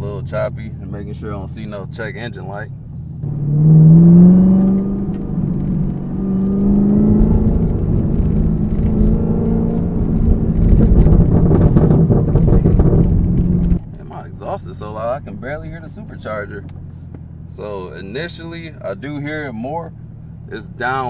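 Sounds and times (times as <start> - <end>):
car exhaust accelerating: 0.0 - 21.0
supercharger whine: 0.0 - 21.0.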